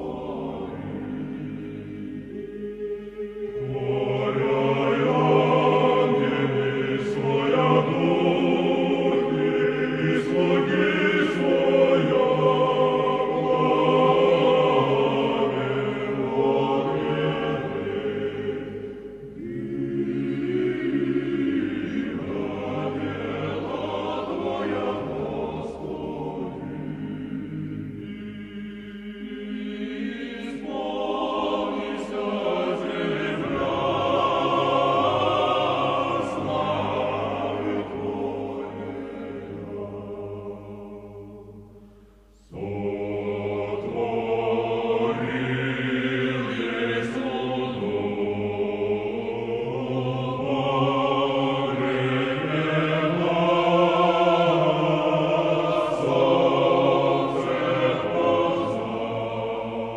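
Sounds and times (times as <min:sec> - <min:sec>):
choir singing chant: 0:00.0 - 0:59.9.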